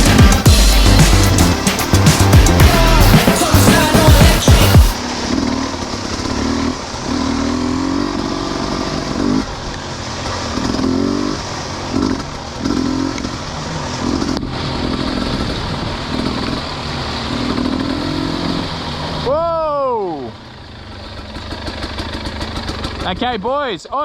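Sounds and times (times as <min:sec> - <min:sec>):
dirt bike engine revving: 0:00.0 - 0:19.3, 0:20.5 - 0:23.6.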